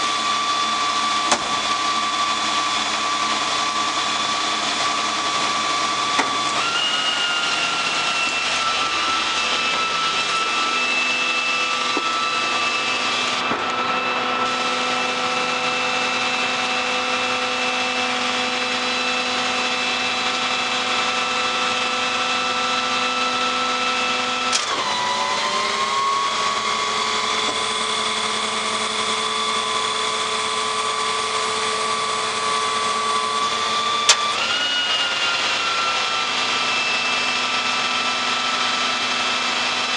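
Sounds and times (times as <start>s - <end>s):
diesel engine running: 0.0s - 39.9s
hydraulic system whining: 0.0s - 39.9s.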